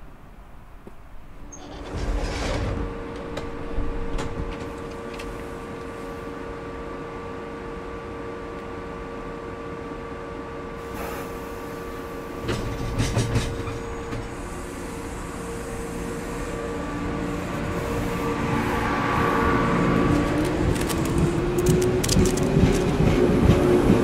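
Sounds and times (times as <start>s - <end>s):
electric train humming: 0.0s - 24.0s
train pulling away: 1.5s - 24.0s.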